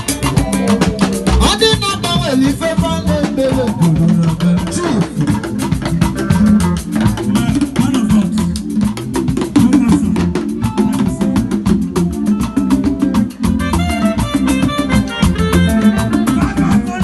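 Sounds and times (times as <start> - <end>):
salsa dance music: 0.0 - 17.0.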